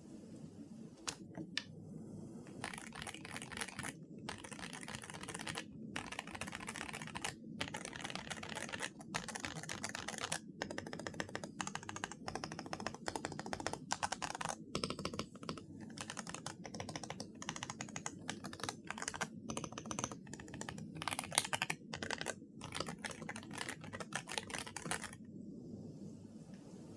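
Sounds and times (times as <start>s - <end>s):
mechanical keyboard typing: 2.5s - 25.2s.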